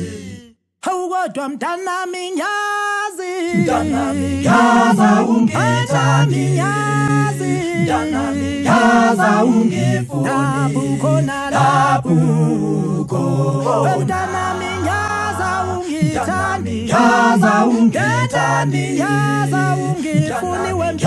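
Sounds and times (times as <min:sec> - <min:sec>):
vocal group singing in harmony: 0:00.0 - 0:00.6, 0:03.2 - 0:21.0.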